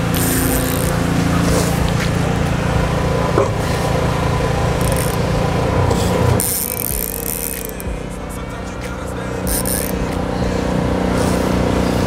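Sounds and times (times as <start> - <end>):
motor running: 0.0 - 12.0.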